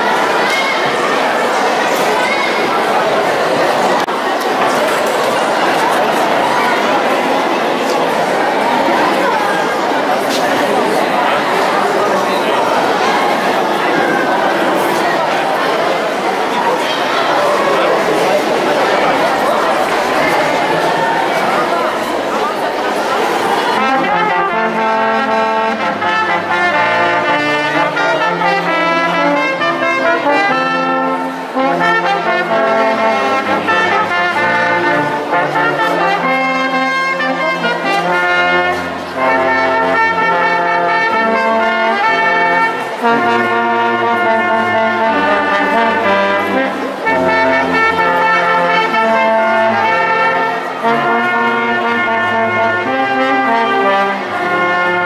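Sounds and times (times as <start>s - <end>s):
brass ensemble playing a tune: 0.0s - 55.0s.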